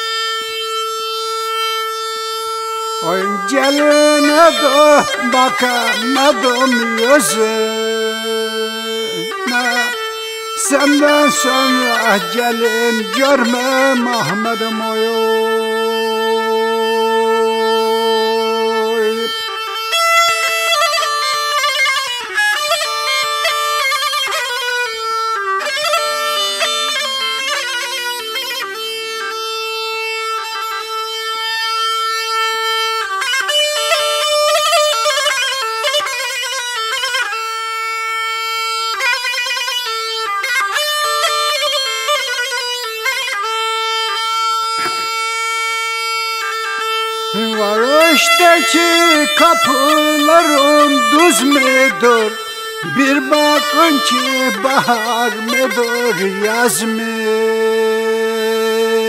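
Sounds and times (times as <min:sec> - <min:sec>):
bagpipe folk melody: 0:00.0 - 0:59.0.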